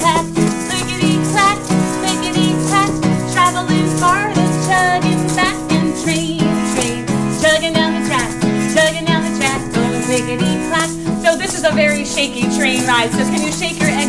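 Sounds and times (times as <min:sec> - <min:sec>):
acoustic guitar strumming: 0:00.0 - 0:14.0
plastic egg shakers: 0:00.0 - 0:14.0.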